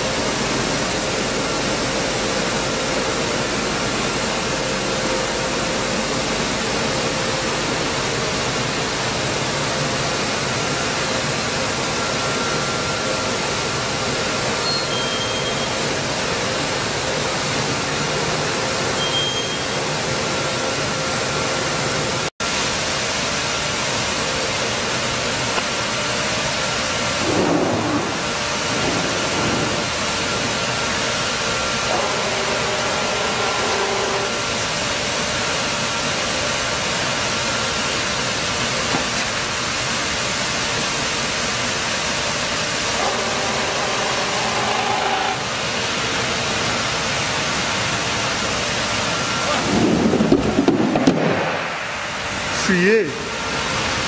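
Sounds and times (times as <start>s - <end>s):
mill machinery noise: 0.0s - 54.0s.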